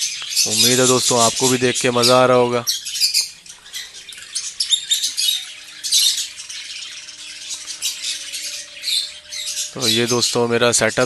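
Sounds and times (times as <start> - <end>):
lovebirds squawking and chirping: 0.0 - 11.0.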